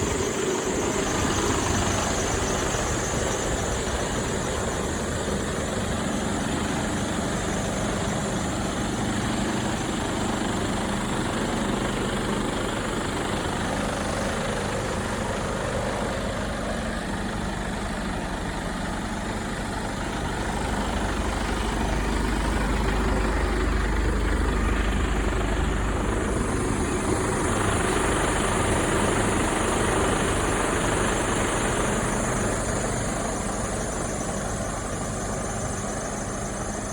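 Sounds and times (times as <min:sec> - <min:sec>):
diesel truck engine idling: 0:00.0 - 0:36.9.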